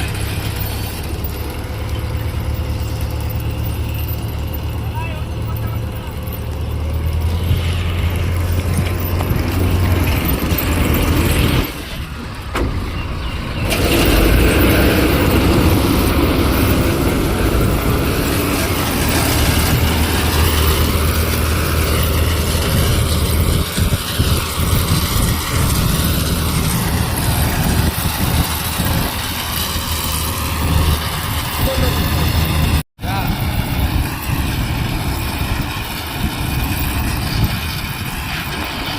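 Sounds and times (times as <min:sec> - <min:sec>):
engine humming and clattering: 0:00.0 - 0:38.9.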